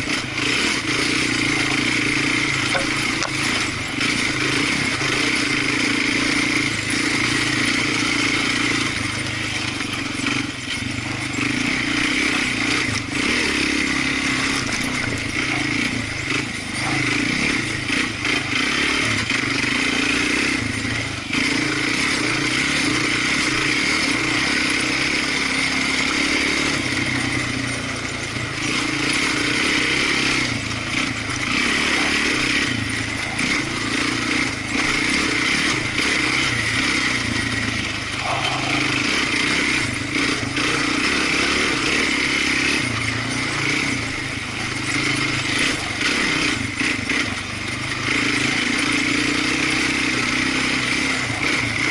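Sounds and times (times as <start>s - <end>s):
off-road vehicle engine running: 0.0s - 51.9s.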